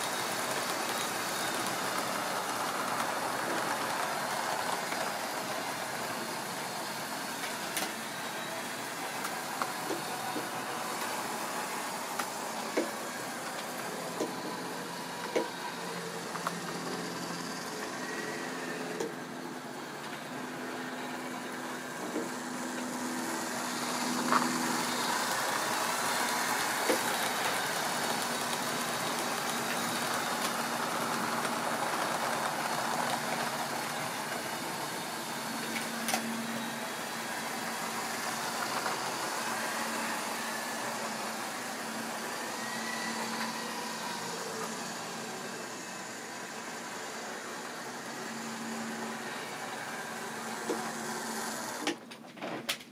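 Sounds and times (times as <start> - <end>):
model train motor hum: 0.0 - 52.0.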